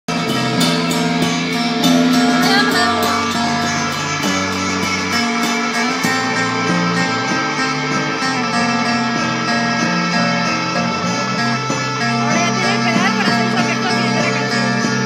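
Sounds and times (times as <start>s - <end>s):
live rock band playing: 0.1s - 15.0s.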